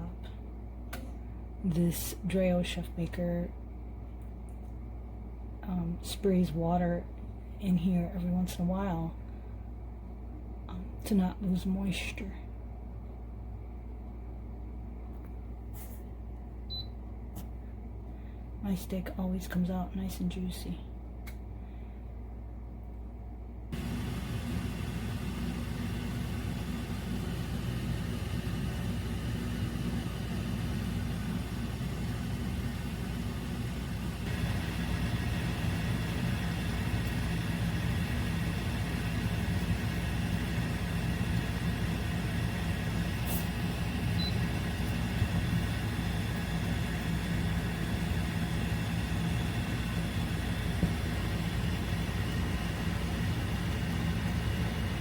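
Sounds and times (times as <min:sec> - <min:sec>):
air fryer fan hum: 0:00.0 - 0:55.0.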